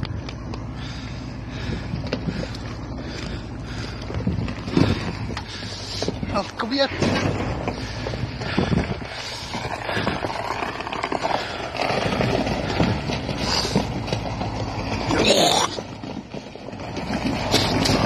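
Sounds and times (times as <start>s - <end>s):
diesel truck engine: 0.0s - 18.0s
tyres churning through slush: 0.4s - 18.0s.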